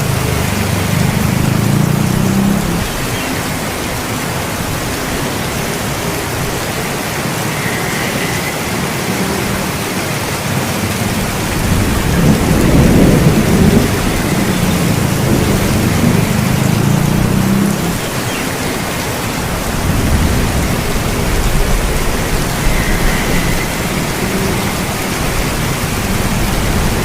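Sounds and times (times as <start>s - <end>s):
heavy rain: 0.0s - 27.0s
thunder rumble: 0.0s - 27.0s.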